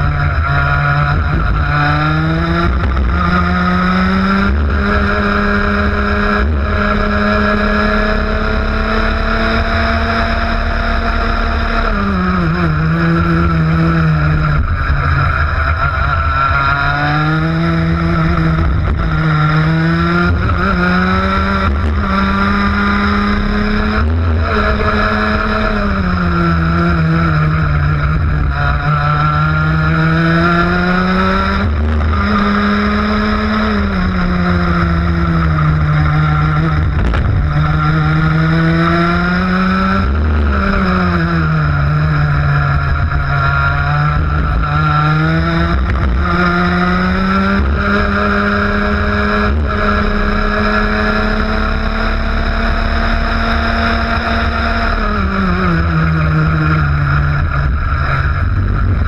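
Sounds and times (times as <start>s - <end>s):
kart engine accelerating: 0.0s - 59.0s.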